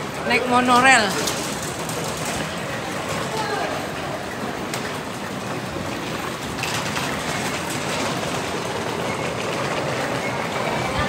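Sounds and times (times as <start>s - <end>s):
monorail train running: 0.0s - 11.0s.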